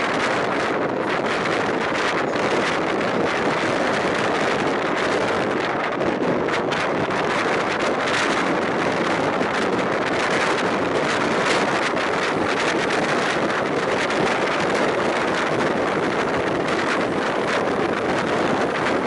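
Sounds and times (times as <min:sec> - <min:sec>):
train running noise: 0:00.0 - 0:19.0
wind rushing over microphone: 0:00.0 - 0:19.0.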